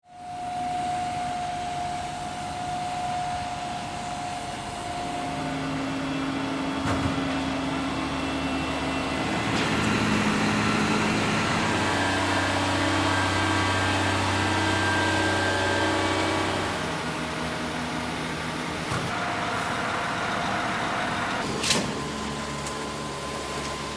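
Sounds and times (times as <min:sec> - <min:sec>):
construction machinery running: 0:00.1 - 0:23.9.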